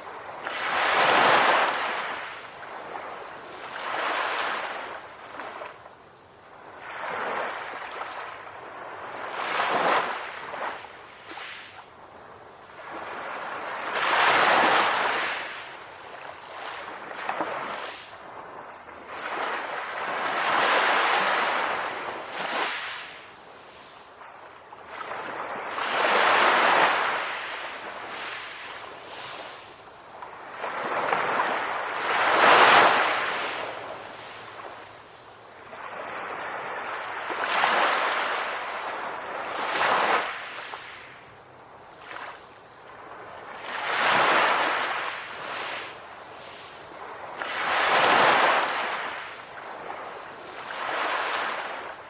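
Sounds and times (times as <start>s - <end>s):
ocean waves washing onto beach: 0.0s - 52.0s.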